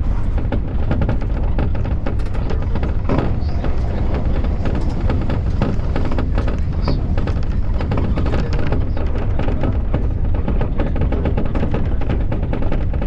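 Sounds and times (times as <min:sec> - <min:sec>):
train rumbling on track: 0:00.0 - 0:13.0
wheels clacking on rails: 0:00.0 - 0:13.0.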